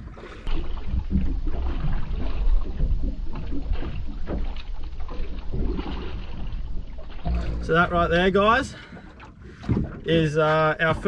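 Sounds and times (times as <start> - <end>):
water slapping against boat hull: 0.0 - 11.0.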